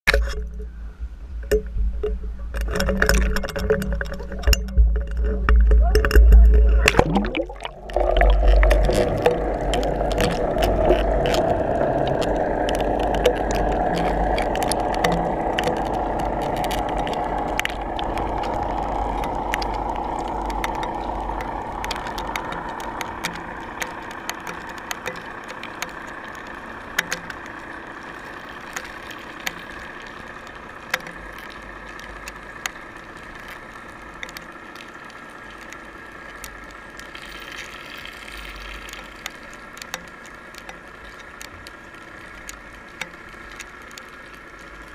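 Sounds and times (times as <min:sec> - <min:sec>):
muffled underwater rushing: 0:00.1 - 0:44.9
sharp clicks: 0:01.4 - 0:37.4.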